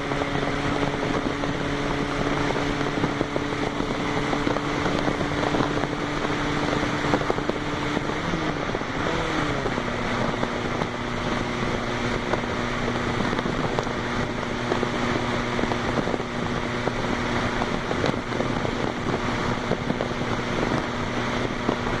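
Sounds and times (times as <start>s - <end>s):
car engine droning loudly: 0.0s - 22.0s.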